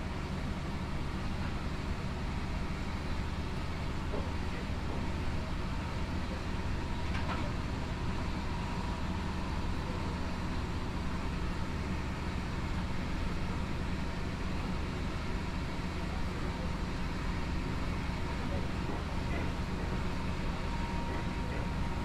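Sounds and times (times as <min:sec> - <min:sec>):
train interior low rumble: 0:00.0 - 0:22.0.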